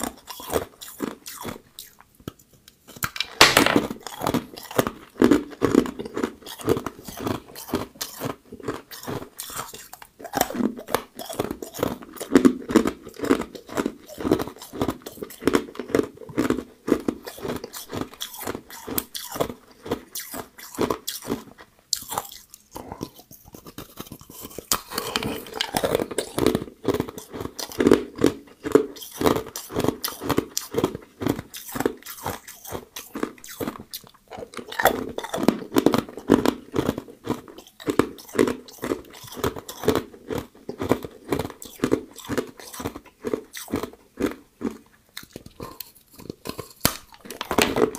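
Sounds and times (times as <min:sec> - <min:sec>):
ice crunching being chewed: 0:00.0 - 0:03.1, 0:04.0 - 0:47.9.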